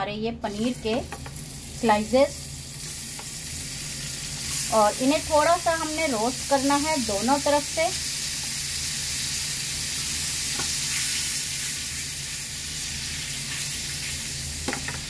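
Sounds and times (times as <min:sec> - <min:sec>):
cheese frying in oil: 0:00.4 - 0:15.0.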